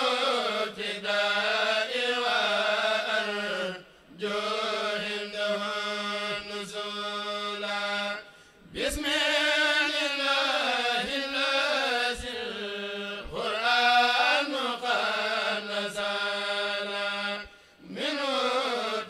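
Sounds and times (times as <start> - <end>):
men chanting: 0.0 - 19.0.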